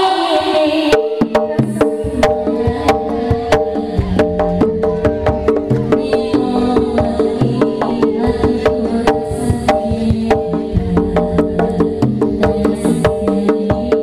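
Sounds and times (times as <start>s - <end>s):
deep drum beats: 1.3s - 14.0s
hand drum strokes: 1.5s - 13.9s.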